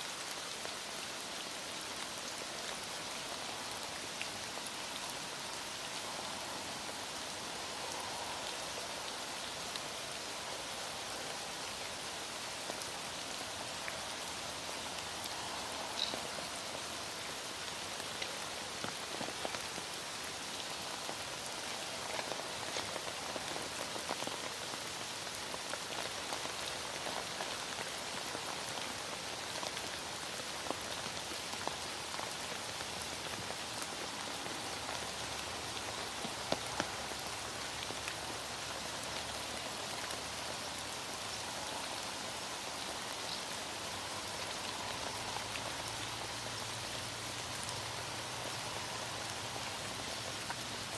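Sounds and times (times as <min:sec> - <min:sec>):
heavy rain falling: 0:00.0 - 0:50.9
rain drops ticking: 0:00.0 - 0:50.9.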